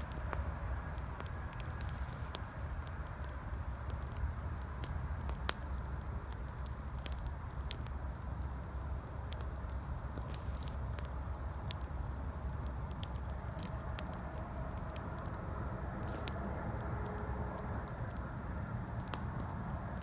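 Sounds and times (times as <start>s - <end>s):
campfire crackling: 0.0s - 20.0s
distant highway traffic rumble: 0.0s - 20.0s.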